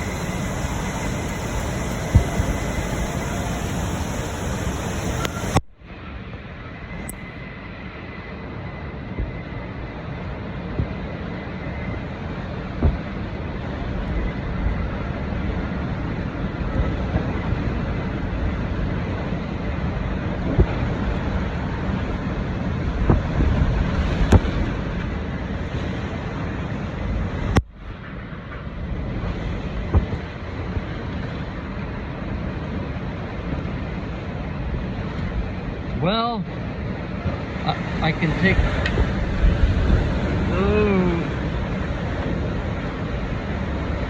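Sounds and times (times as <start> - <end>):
strong wind blowing: 0.0 - 44.0.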